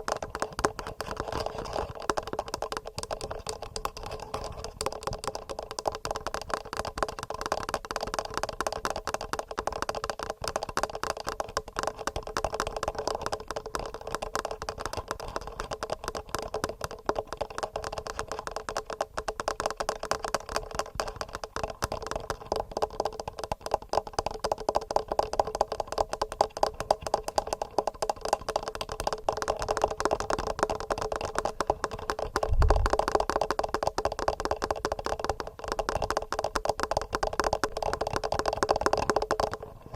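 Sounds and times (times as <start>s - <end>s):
fingernails tapping on microphone: 0.0s - 39.9s.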